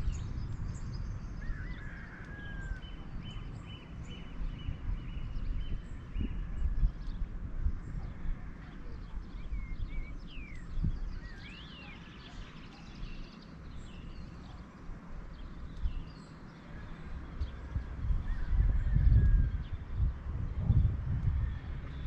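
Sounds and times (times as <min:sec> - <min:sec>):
birds chirping: 0:00.0 - 0:20.9
low rumbling noise: 0:00.0 - 0:22.0.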